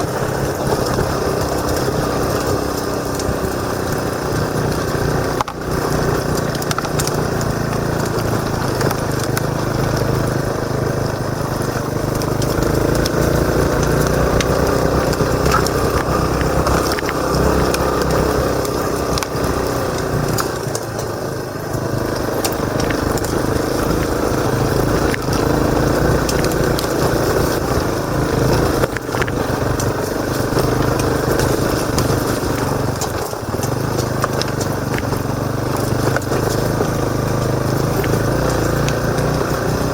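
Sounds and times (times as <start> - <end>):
motorcycle engine revving: 0.0 - 39.9
sharp ticks and knocks: 0.0 - 39.9.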